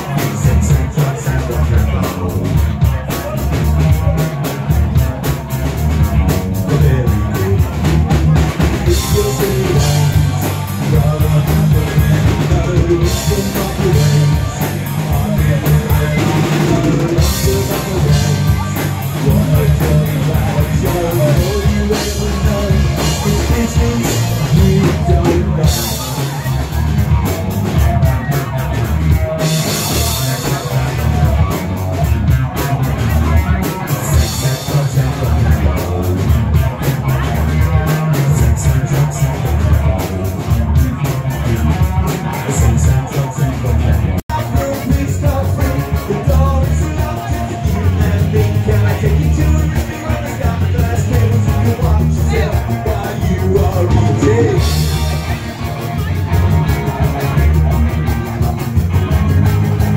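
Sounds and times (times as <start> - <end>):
drum kit beat: 0.0 - 59.9
heavy bass line: 0.0 - 59.9
live rock band playing: 0.0 - 59.9.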